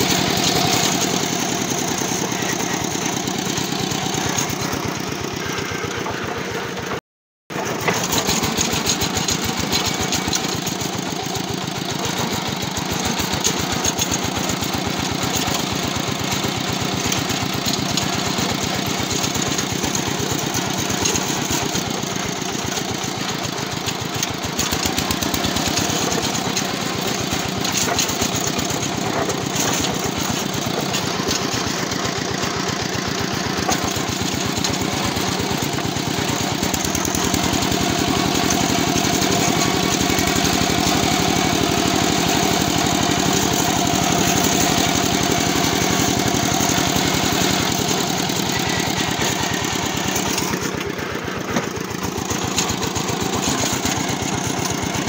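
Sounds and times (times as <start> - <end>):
walking tractor diesel engine chugging: 0.0 - 55.0.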